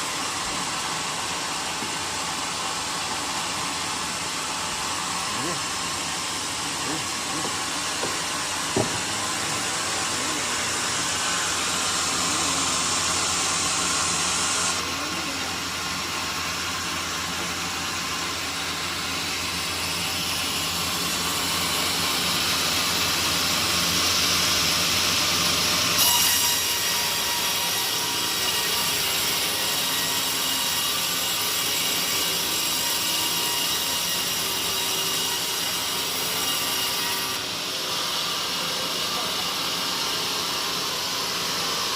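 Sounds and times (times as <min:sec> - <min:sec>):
sawmill saw cutting log: 0:00.0 - 0:41.9.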